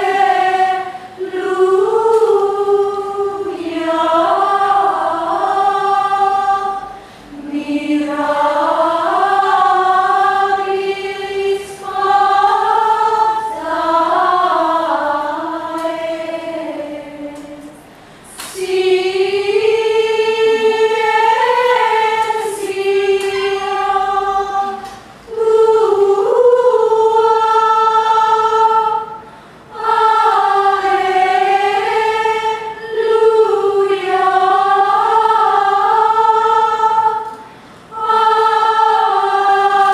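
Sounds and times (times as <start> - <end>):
women's choir chanting a cappella: 0.0 - 39.9.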